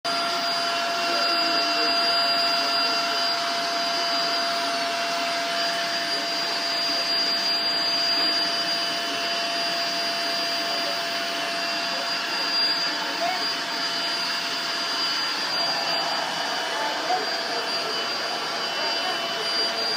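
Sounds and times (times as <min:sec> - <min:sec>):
vacuum cleaner running: 0:00.1 - 0:19.9.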